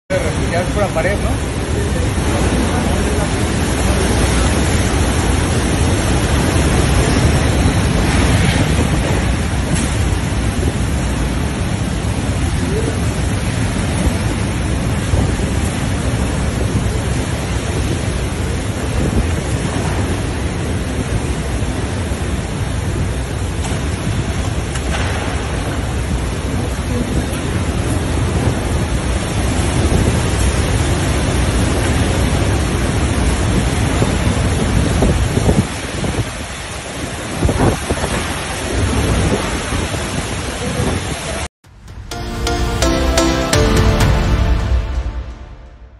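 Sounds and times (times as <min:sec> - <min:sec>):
hurricane winds howling: 0:00.1 - 0:45.9
wind buffeting microphone: 0:01.4 - 0:41.4.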